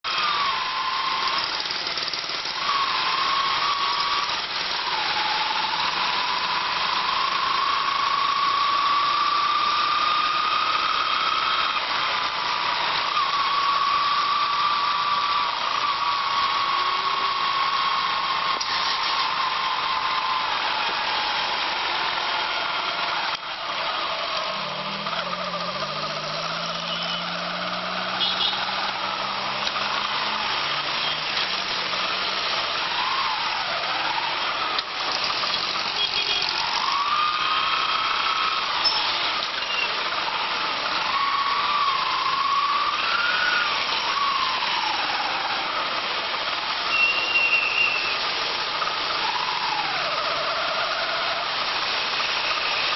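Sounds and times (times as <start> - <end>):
steady rushing noise: 0.0 - 47.0
vehicle engine whine: 0.0 - 52.9
lower stepping engine note: 0.1 - 52.9.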